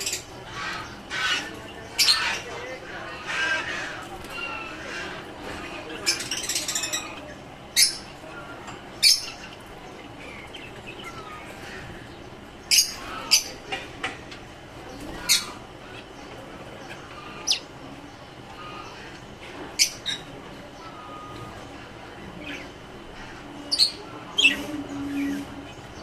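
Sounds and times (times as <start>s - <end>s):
birds chattering: 0.0s - 26.0s.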